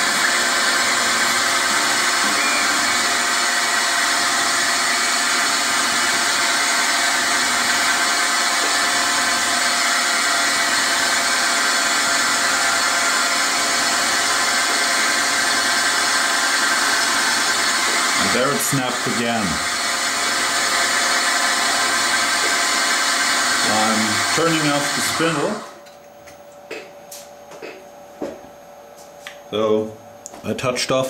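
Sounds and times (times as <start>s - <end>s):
milling machine spindle hum: 0.0s - 27.8s.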